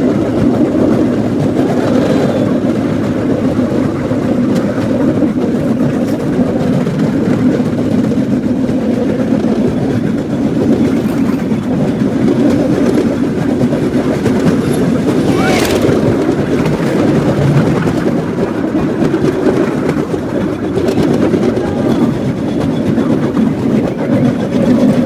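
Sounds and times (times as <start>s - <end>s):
small engine running: 0.0s - 25.0s
wheels on rails: 0.0s - 25.0s.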